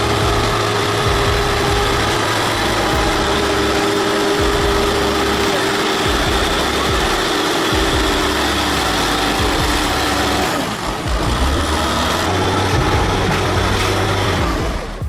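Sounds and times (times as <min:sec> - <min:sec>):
heavy tractor engine rumbling: 0:00.0 - 0:15.0.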